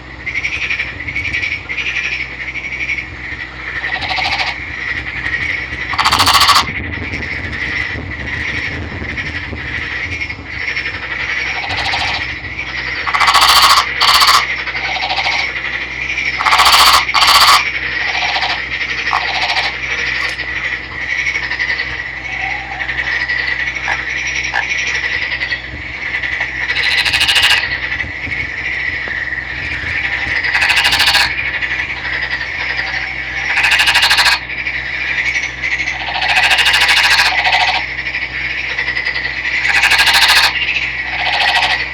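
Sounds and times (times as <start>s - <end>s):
frog croaking: 0.0s - 41.9s
high-pitched hum: 0.0s - 41.9s.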